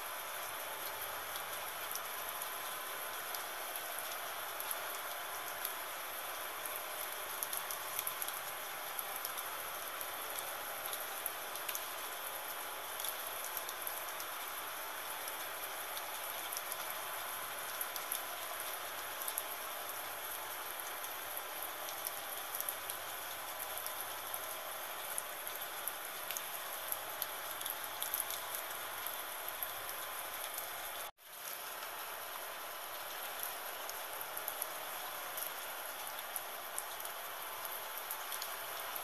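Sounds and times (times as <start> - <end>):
gentle rain: 0.0 - 39.0.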